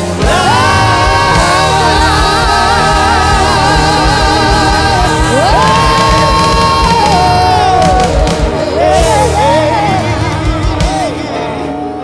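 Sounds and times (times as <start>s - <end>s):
band with steady low beat: 0.0s - 11.5s
singers holding notes with vibrato: 0.0s - 12.0s.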